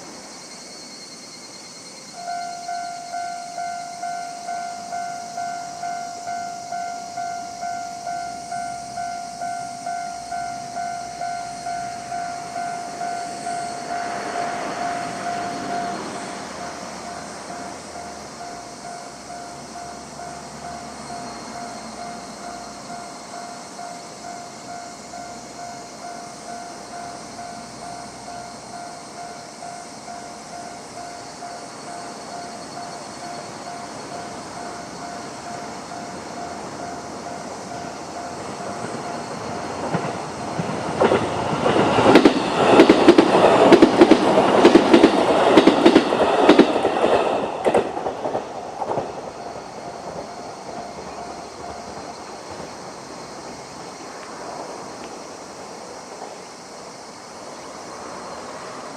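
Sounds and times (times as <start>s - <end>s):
electric train passing: 0.0s - 58.9s
level crossing bell alarm: 0.7s - 52.1s
train wheels clattering on rails: 2.1s - 56.6s.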